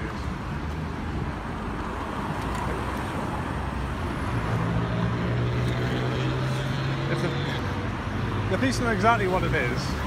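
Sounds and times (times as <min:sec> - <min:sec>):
cars passing on road: 0:00.0 - 0:10.0.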